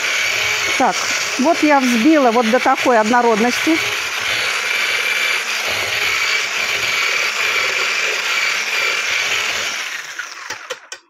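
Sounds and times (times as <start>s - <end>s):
hand blender motor whining: 0.0s - 11.0s.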